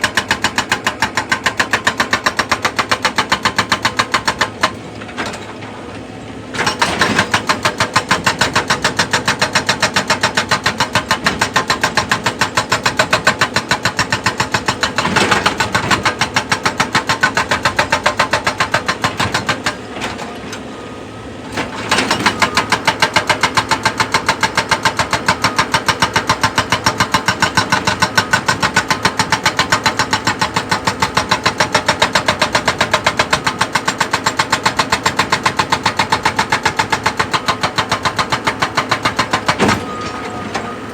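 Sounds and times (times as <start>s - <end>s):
hydraulic rock breaker hammering: 0.0s - 5.8s, 6.4s - 20.8s, 21.4s - 40.9s.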